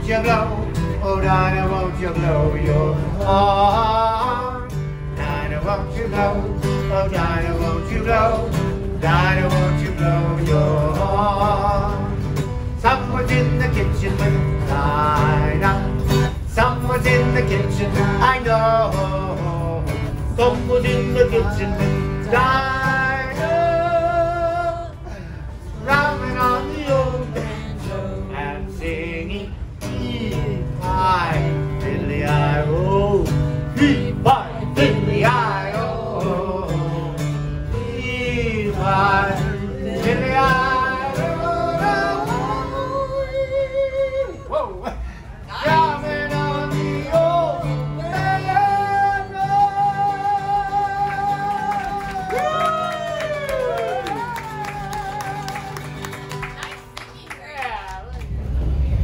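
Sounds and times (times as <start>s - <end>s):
acoustic guitar strumming: 0.0s - 44.5s, 45.2s - 57.2s.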